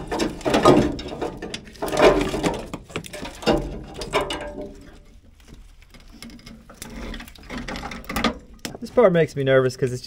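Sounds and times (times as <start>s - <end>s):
wires rustling and scraping on metal: 0.0s - 9.1s.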